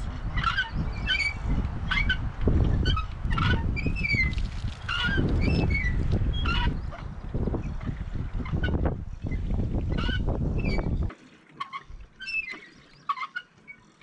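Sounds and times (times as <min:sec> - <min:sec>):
rush of pumped water: 0:00.0 - 0:14.0
pump handle squeaking: 0:00.4 - 0:07.0, 0:07.8 - 0:14.0.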